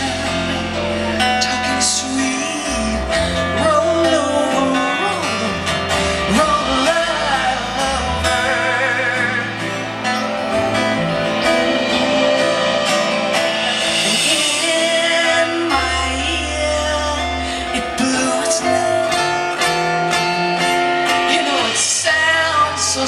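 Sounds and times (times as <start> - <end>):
woman singing: 0.0 - 10.3, 11.3 - 20.2, 21.1 - 23.0
rock band playing: 0.0 - 23.0.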